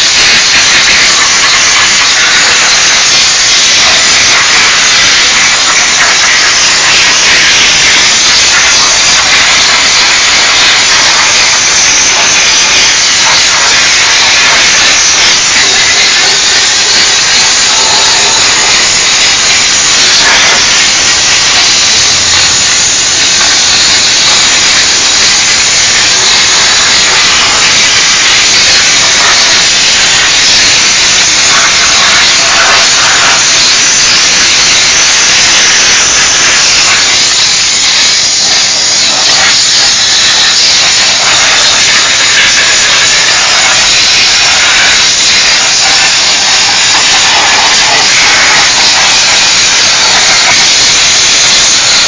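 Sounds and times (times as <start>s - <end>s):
steam nozzle hissing: 0.0s - 52.0s.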